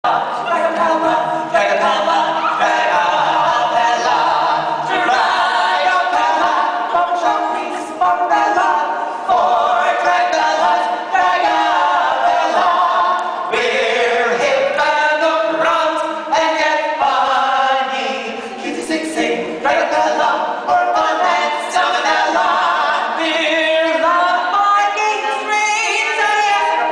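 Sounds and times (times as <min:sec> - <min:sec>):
male vocal quartet singing: 0:00.0 - 0:26.9.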